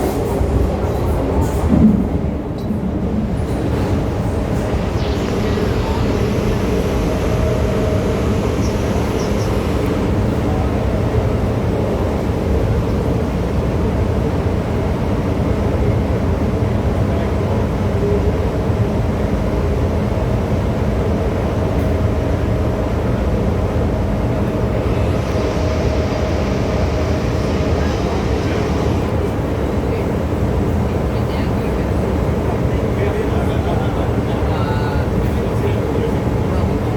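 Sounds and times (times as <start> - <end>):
metro train running rumble: 0.0 - 36.9.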